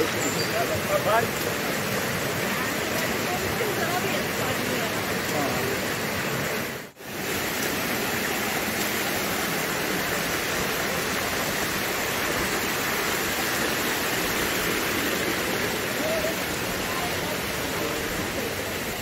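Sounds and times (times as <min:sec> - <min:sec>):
rushing stream water: 0:00.0 - 0:19.0.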